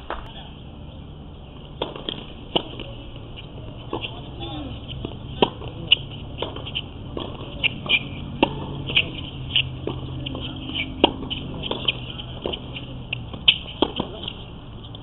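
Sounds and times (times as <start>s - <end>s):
steady low hum: 0.0s - 15.0s
tennis balls bouncing and hit: 0.9s - 15.0s.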